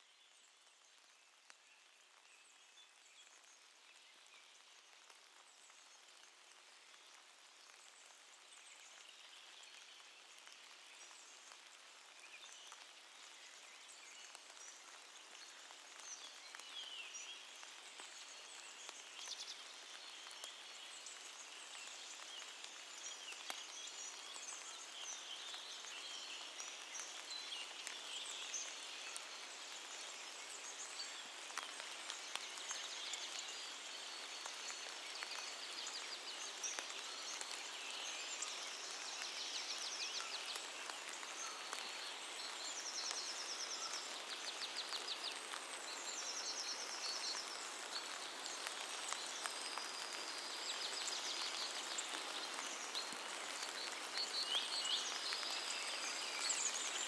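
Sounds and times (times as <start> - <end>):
rain pattering on leaves: 0.0 - 57.0.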